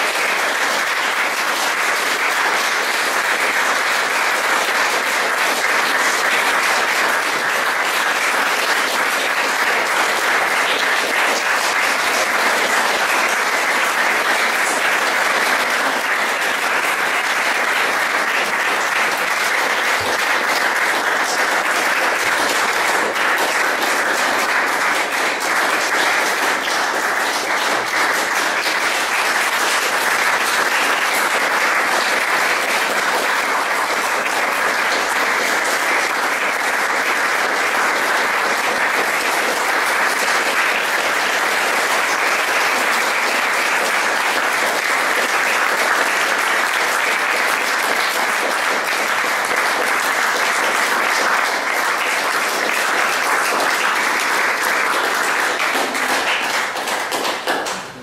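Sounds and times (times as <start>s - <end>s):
audience applauding: 0.0s - 58.0s.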